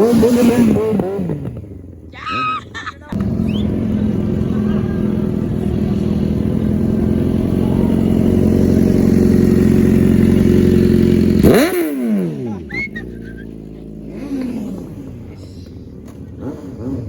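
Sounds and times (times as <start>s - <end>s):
car engine revving: 0.0s - 2.0s, 3.2s - 17.0s
exhaust crackle: 3.1s - 17.0s.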